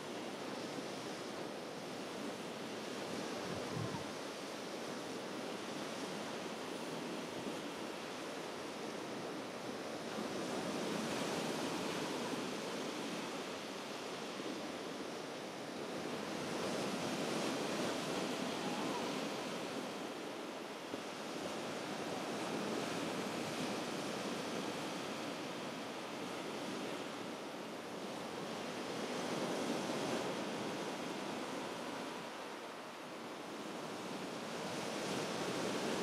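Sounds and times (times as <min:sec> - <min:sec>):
sea surf washing onto beach: 0:00.0 - 0:36.0.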